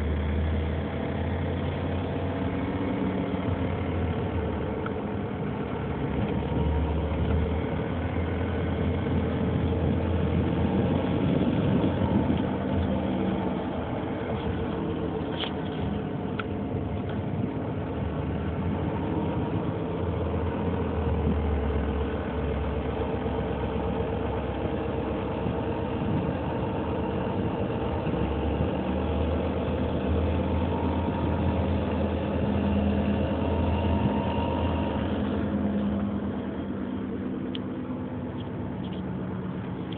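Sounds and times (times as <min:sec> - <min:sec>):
engine clicking and tapping: 0:00.0 - 0:34.3
car engine idling: 0:00.0 - 0:39.9.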